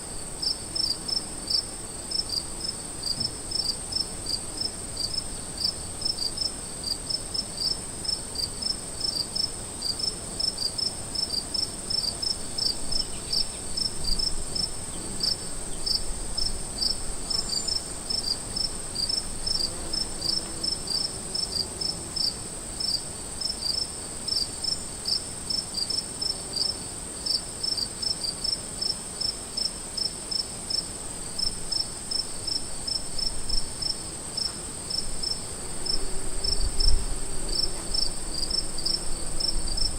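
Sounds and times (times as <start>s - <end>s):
crickets chirping: 0.0s - 39.9s
high-pitched insect trill: 7.6s - 39.9s.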